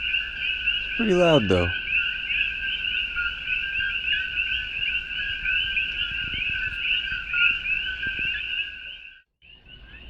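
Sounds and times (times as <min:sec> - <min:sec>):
frogs calling in chorus: 0:00.0 - 0:10.0.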